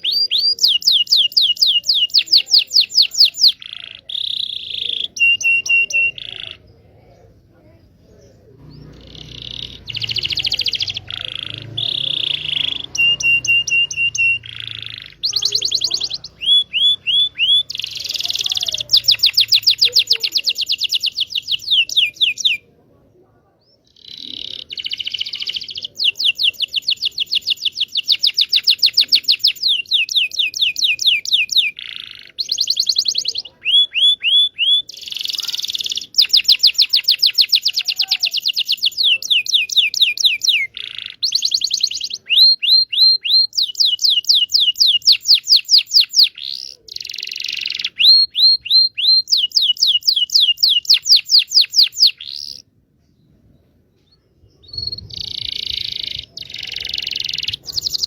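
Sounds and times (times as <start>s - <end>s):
canary singing fast trills: 0.0s - 22.8s, 23.6s - 52.8s, 54.4s - 58.0s.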